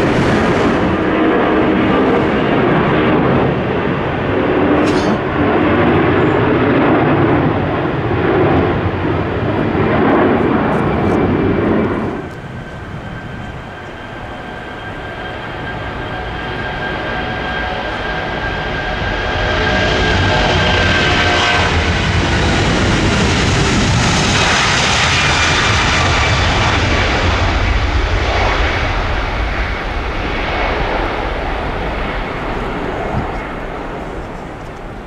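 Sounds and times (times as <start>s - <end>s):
jet engines running loud: 0.0s - 35.0s.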